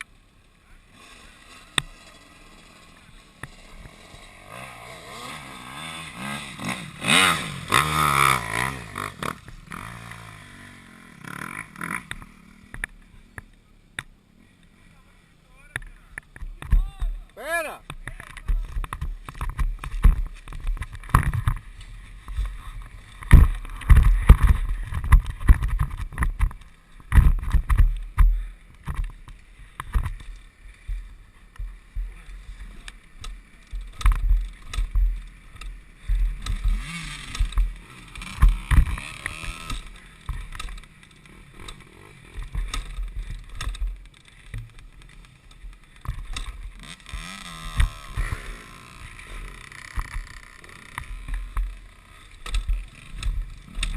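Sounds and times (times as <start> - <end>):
muffled dirt bike engine: 0.0 - 53.9.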